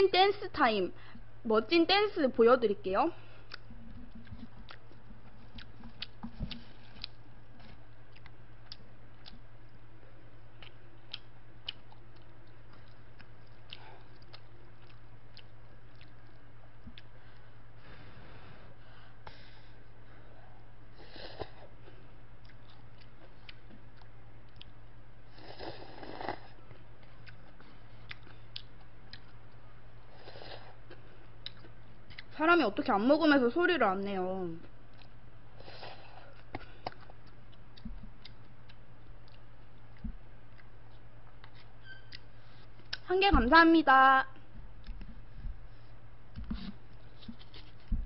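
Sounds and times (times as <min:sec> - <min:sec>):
soft chewing: 0:03.2 - 0:32.4, 0:34.6 - 0:43.1, 0:44.4 - 0:48.0.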